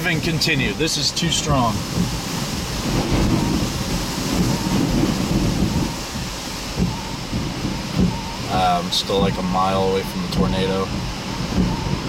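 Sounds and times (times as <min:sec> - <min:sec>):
strong wind buffeting vehicle: 0:00.0 - 0:12.0.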